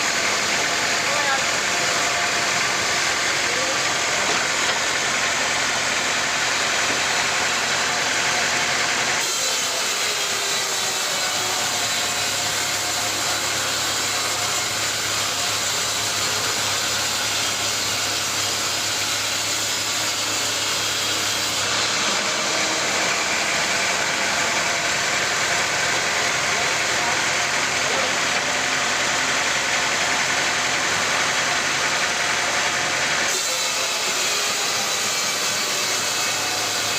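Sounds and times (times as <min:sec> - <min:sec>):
sawmill machinery running: 0:00.0 - 0:36.9.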